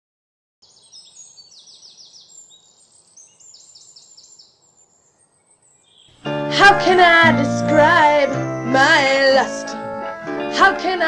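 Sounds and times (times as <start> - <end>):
birds chirping: 0.6 - 11.0.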